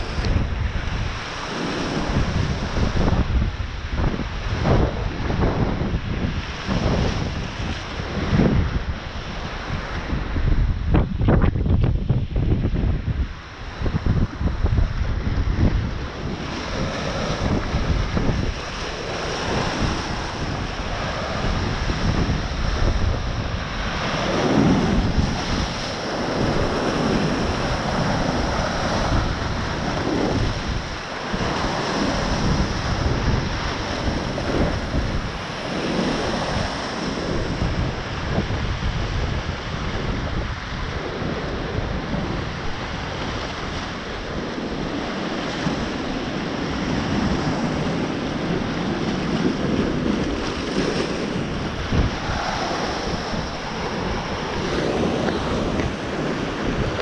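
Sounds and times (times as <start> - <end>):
surf breaking over rocks: 0.0 - 57.0
wind buffeting microphone: 0.0 - 57.0.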